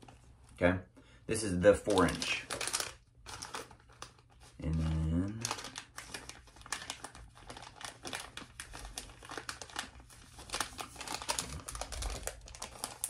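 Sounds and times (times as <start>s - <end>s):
plastic pouch crinkling: 1.8s - 13.0s.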